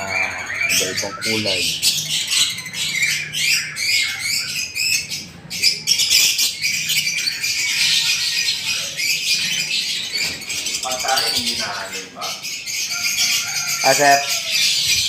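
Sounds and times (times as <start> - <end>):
lovebirds chirping and squawking: 0.0 - 15.0.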